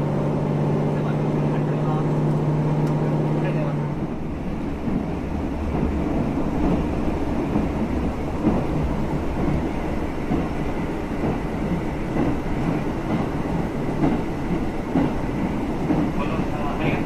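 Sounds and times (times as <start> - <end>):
train wheels and diesel rumble: 0.0 - 17.0.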